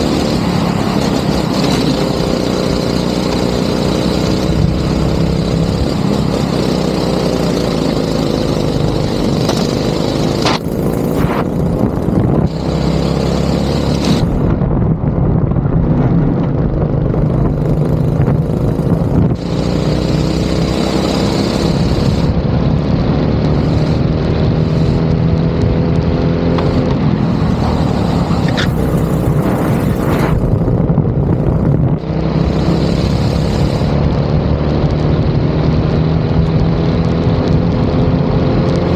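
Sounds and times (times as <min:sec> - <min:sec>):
go-kart engine revving: 0:00.0 - 0:14.6, 0:16.0 - 0:38.9.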